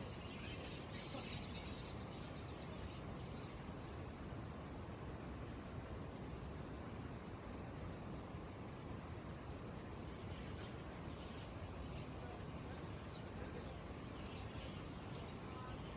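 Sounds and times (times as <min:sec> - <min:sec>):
crickets chirring: 0:00.0 - 0:15.9.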